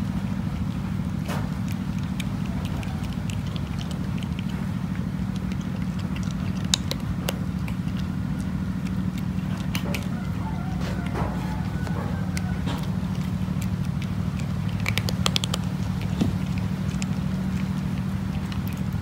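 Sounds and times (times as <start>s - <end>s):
cat crunching dry kibble: 0.0s - 19.0s
steady low hum: 0.0s - 19.0s.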